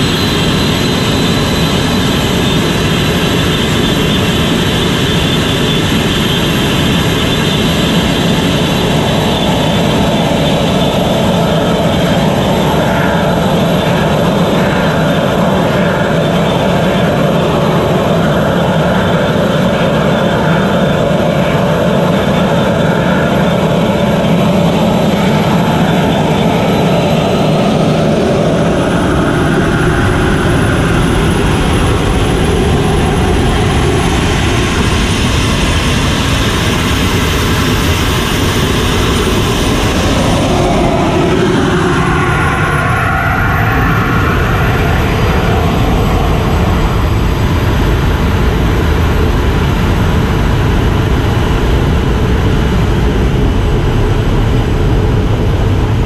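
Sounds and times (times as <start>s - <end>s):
jet engine turbine whine: 0.0s - 56.0s.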